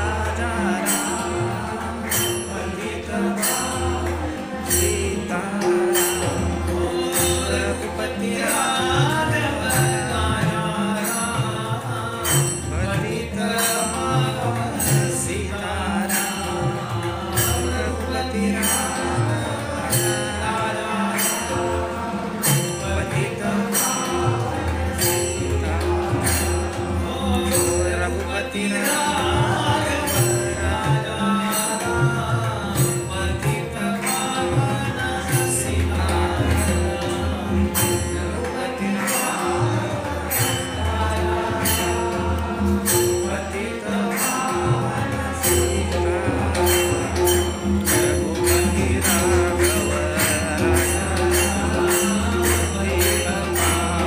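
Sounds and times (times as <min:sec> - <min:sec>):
jingling hand percussion: 0:00.0 - 0:54.0
man singing: 0:00.0 - 0:54.0
tabla: 0:00.0 - 0:54.0.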